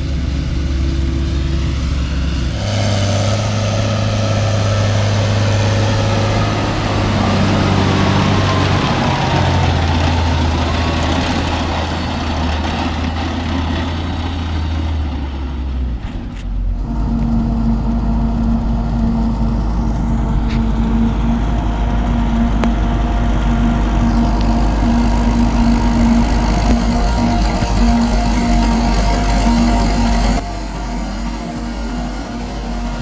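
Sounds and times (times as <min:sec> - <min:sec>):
heavy machinery engines running: 0:00.0 - 0:33.0.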